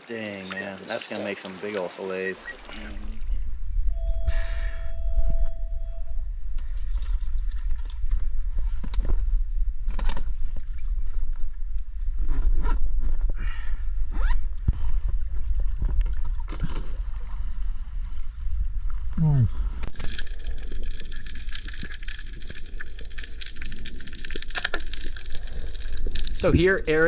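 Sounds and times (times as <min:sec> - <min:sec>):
steady low rumble: 0:02.8 - 0:27.0.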